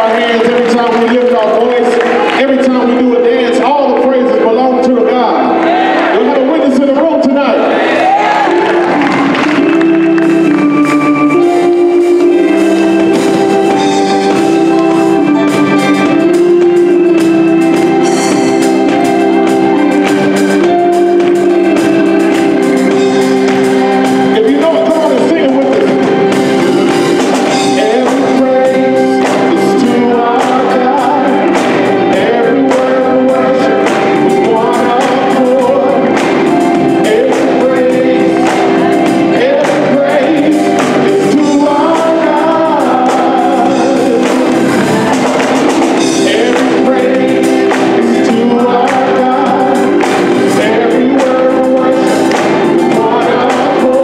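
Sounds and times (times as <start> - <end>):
electric guitar: 0.0 - 54.0
organ chords: 0.0 - 54.0
gospel choir singing: 5.0 - 54.0
drum kit: 5.1 - 54.0.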